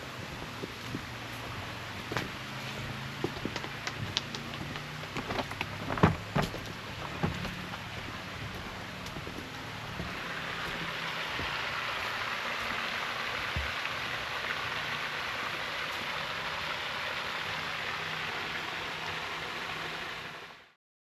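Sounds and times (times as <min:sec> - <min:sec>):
steady rushing hiss: 0:00.0 - 0:20.6.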